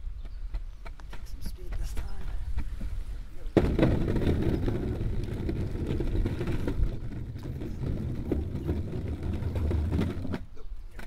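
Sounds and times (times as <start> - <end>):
skateboard wheels rolling on planks: 0.0 - 11.0.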